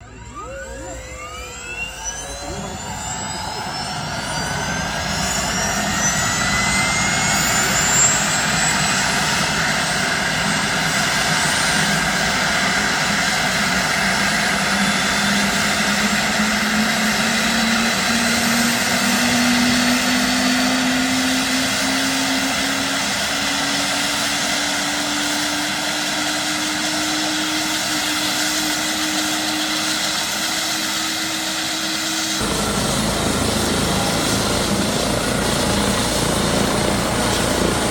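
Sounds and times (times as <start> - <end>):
helicopter turbine and rotor: 0.0 - 37.9.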